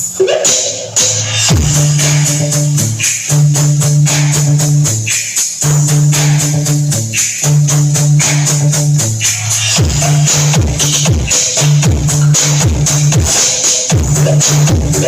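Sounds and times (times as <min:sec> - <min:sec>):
fast steady percussion: 0:00.0 - 0:15.0
heavy bass notes: 0:00.0 - 0:15.0.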